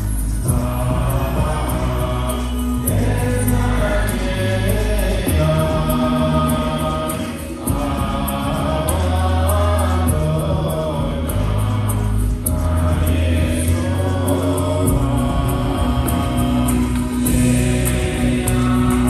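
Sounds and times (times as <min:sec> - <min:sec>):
voices singing over low notes: 0:00.0 - 0:19.0.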